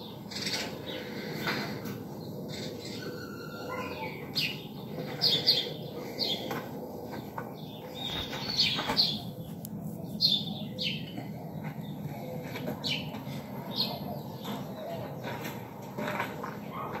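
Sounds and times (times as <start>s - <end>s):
birds chirping: 0.0s - 17.0s
low background hum: 0.0s - 17.0s.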